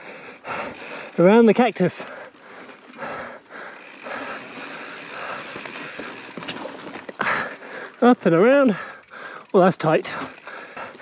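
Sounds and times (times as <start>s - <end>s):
bike tyres and drivetrain on rock: 0.0s - 11.0s.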